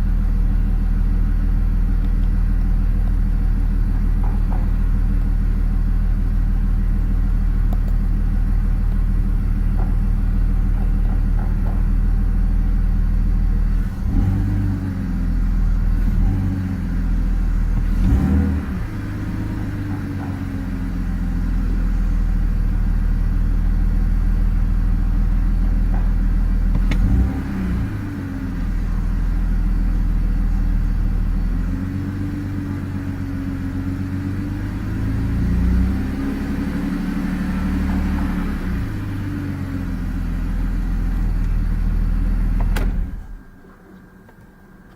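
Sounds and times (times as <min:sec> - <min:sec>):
car engine idling roughly: 0:00.0 - 0:34.4, 0:37.7 - 0:44.9.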